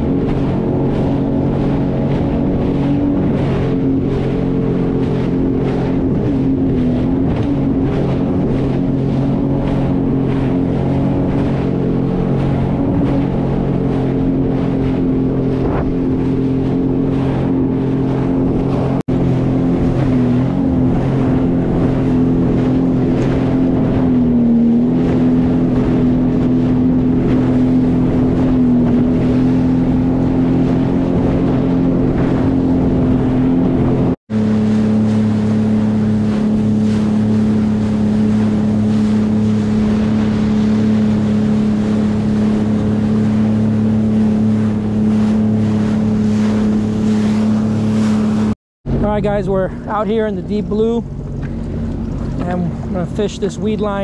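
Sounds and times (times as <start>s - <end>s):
water and wind hissing: 0.0s - 54.0s
watercraft engine running: 0.0s - 54.0s.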